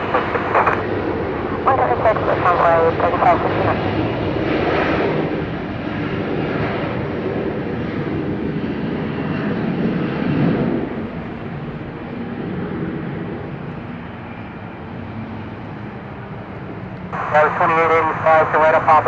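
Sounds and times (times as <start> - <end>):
jet airliner engine roar: 0.0 - 19.0.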